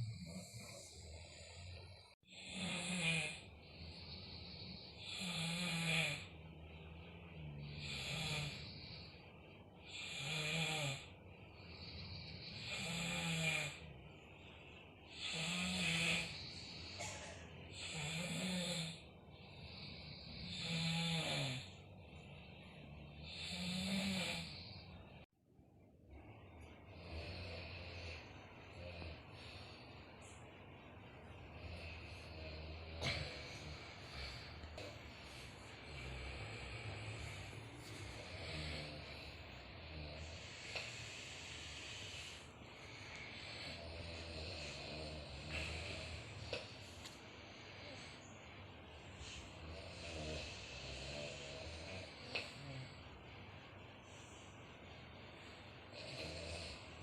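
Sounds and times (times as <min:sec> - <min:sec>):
people snoring: 0:00.0 - 0:25.3, 0:26.2 - 0:30.4, 0:31.0 - 0:48.2, 0:48.9 - 0:53.3, 0:54.0 - 0:57.0.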